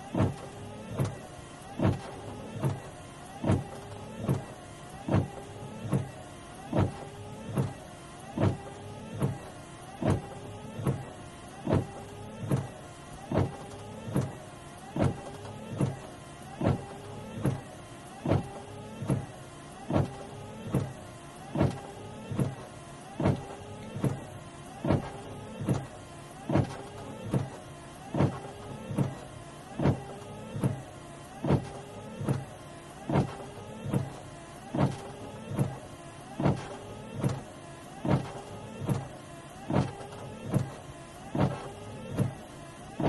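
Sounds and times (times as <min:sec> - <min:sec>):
wiper thump: 0:00.0 - 0:07.8, 0:08.4 - 0:16.0, 0:16.6 - 0:43.0
windscreen wipers sweeping: 0:00.0 - 0:43.0
wiper motor whine: 0:00.0 - 0:43.0.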